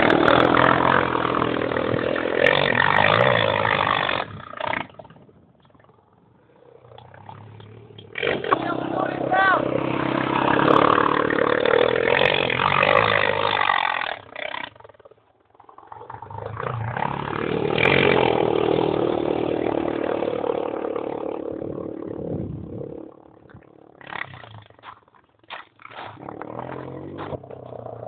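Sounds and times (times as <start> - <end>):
atv engine revving: 0.0 - 28.0.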